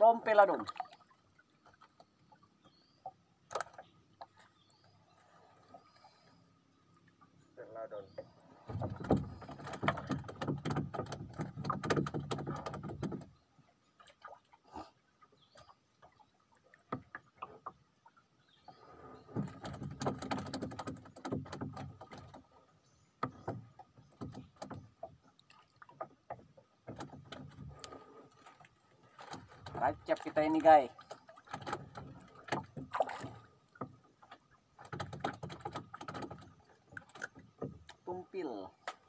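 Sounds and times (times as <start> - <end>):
knocks and splashing around boat: 0.0 - 39.0.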